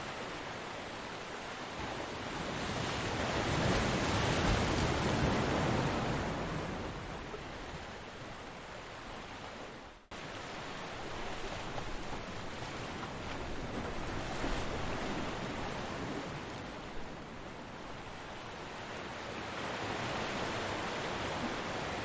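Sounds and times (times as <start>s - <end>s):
ocean waves washing: 0.0s - 22.0s.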